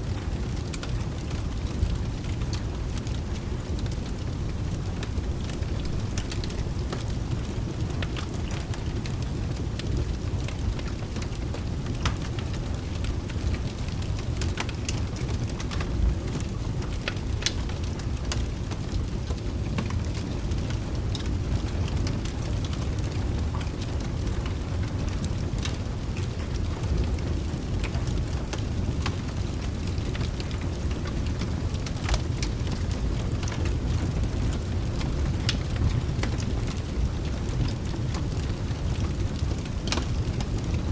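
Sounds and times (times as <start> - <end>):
deep continuous rumble: 0.0 - 40.9
steady rain: 0.0 - 40.9
wood fire crackling: 0.0 - 40.9.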